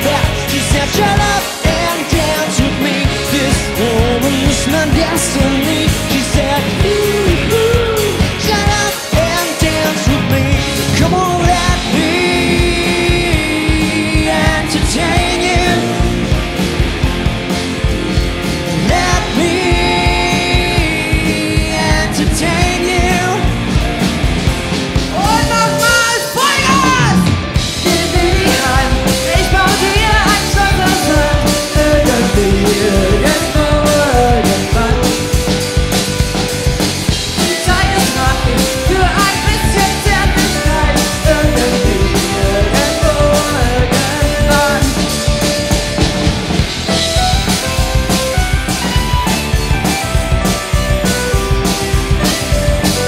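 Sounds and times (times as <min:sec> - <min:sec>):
lead vocals singing: 0:00.0 - 0:16.6, 0:18.7 - 0:23.7, 0:25.1 - 0:46.4
band playing pop-rock song: 0:00.0 - 0:53.0.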